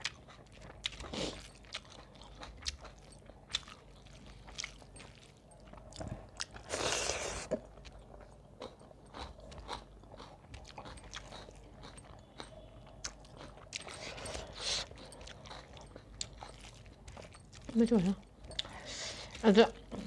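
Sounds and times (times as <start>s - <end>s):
chewing food: 0.0s - 20.0s.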